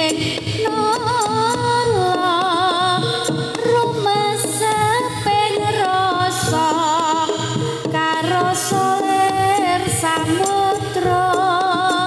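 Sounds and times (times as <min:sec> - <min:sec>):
drumming: 0:00.0 - 0:12.0.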